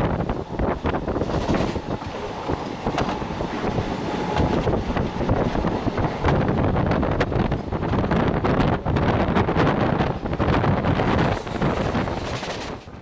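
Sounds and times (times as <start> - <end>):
wind on microphone: 0.0 - 13.0
train wheels clattering on track: 0.7 - 13.0.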